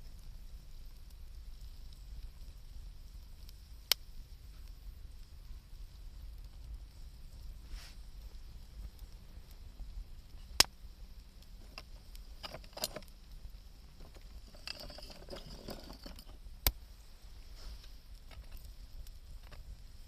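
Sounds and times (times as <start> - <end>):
campfire crackling: 0.0 - 20.0
sharp fire pops: 0.0 - 20.0.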